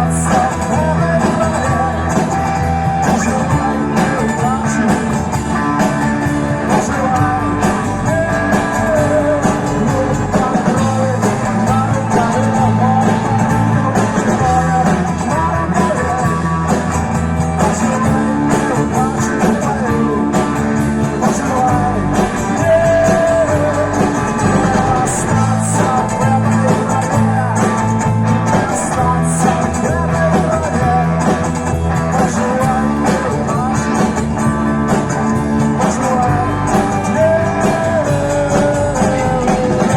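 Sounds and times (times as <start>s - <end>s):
guitar: 0.0s - 39.9s
rock band playing with vocals: 0.0s - 39.9s.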